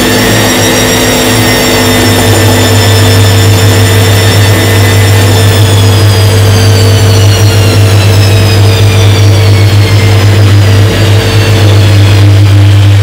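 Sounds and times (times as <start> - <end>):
washing machine low hum: 0.0 - 13.0
washing machine motor whine: 0.0 - 13.0.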